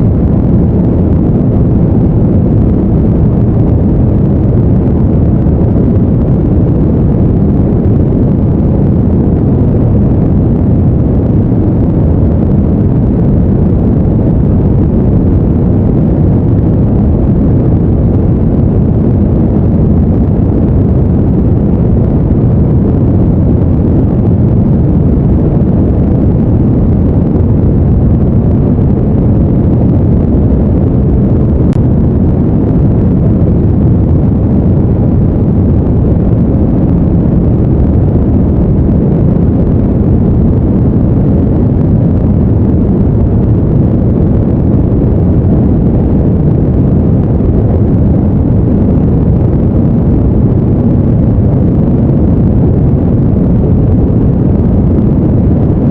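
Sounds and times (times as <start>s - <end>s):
steady deep brown noise: 0.0s - 55.9s.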